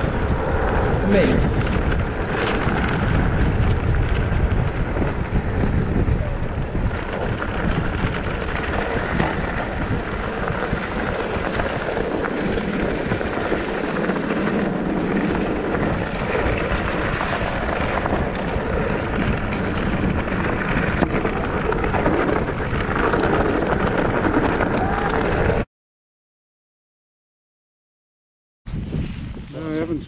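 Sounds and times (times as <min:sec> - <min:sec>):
wind buffeting microphone: 0:00.0 - 0:25.6, 0:28.7 - 0:30.0
bike tyre and drivetrain noise: 0:00.0 - 0:25.7.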